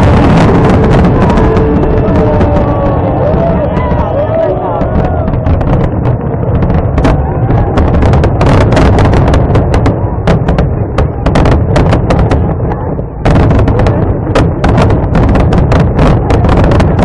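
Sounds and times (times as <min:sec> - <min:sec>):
fireworks bangs and crackles: 0:00.0 - 0:17.0
low rumble: 0:00.0 - 0:17.0.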